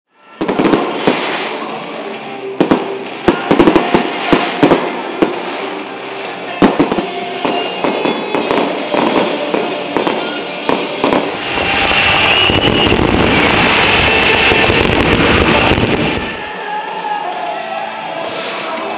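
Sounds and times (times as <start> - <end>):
background music: 0.1 - 18.9
fireworks bursting bangs: 0.4 - 16.6.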